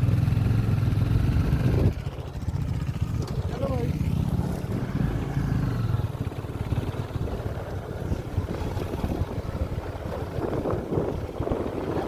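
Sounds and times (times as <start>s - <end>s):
motorcycle engine rumble: 0.0s - 12.0s
wind buffeting microphone: 0.9s - 12.0s.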